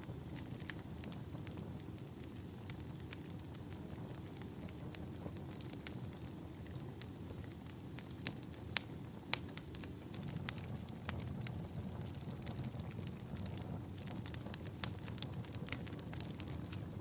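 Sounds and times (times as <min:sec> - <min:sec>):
fire crackling pops: 0:00.0 - 0:17.0
low rumble of flames: 0:00.0 - 0:17.0.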